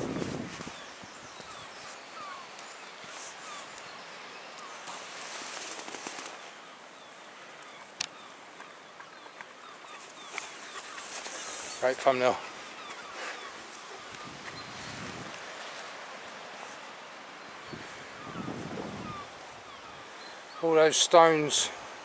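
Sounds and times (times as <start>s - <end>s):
rustles: 0.0s - 20.7s.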